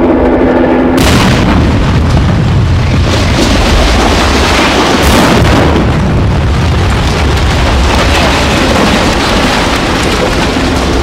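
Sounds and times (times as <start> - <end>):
explosion burst: 1.0 - 11.0
fireball rumble: 1.0 - 11.0
debris showering down: 1.6 - 11.0.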